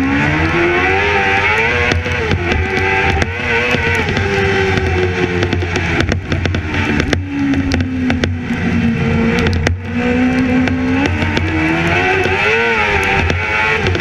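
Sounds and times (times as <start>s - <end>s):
racing sidecar engine running hard: 0.0s - 14.0s.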